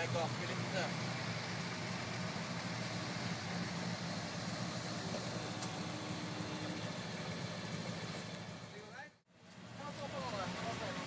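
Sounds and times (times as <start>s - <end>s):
vehicle engines running low: 0.0s - 11.0s.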